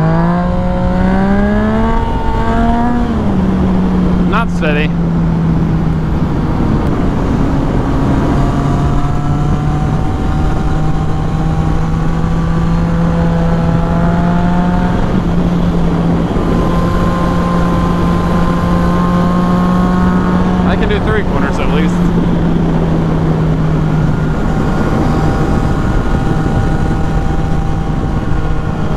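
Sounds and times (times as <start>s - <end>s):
motorcycle engine revving: 0.0s - 28.9s
wind rumble on microphone: 0.0s - 28.9s.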